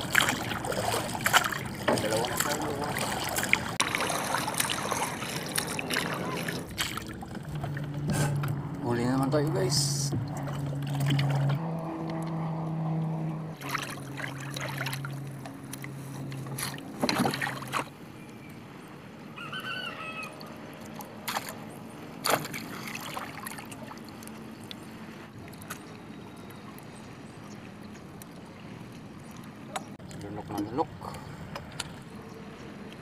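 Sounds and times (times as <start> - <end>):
engine hum: 0.0 - 33.0
water lapping against hull: 0.0 - 33.0.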